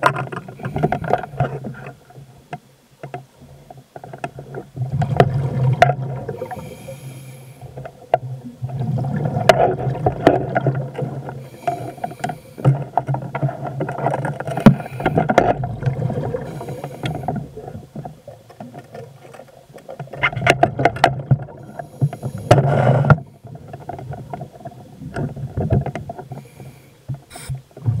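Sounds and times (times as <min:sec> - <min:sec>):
water swishing and bubbling: 0:00.0 - 0:28.0.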